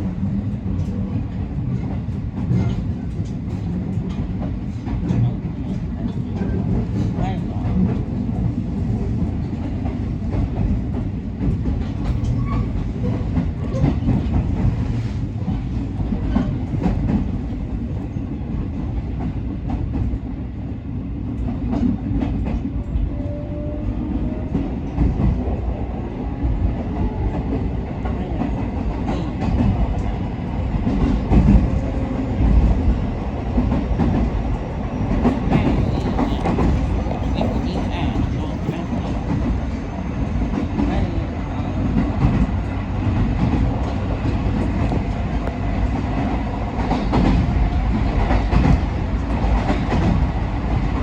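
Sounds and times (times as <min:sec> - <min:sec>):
clickety-clack of rail joints: 0:00.0 - 0:51.0
wheels rumbling on rail: 0:00.0 - 0:51.0.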